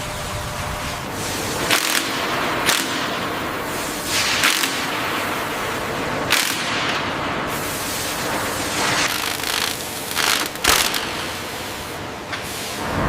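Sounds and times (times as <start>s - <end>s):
steady factory hiss: 0.0s - 13.0s.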